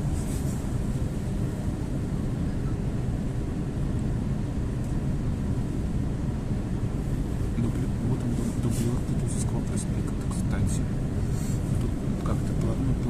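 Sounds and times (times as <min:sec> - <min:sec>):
electric train low rumble: 0:00.0 - 0:13.0.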